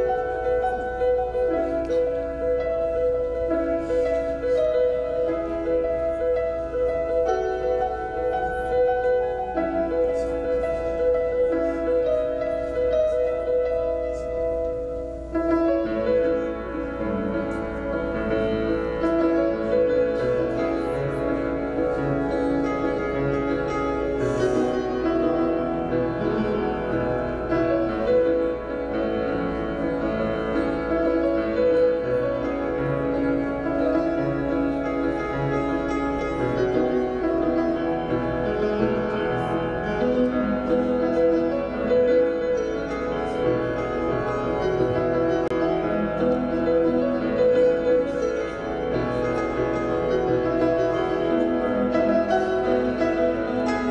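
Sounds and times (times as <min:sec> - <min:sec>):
upright piano playing: 0:00.0 - 0:53.9.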